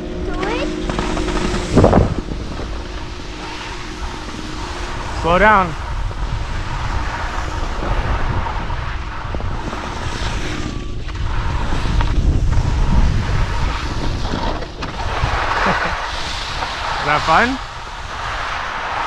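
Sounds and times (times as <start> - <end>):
low rumble: 0.0 - 19.0
wind buffeting microphone: 0.0 - 19.0
skis hissing over snow: 0.3 - 19.0.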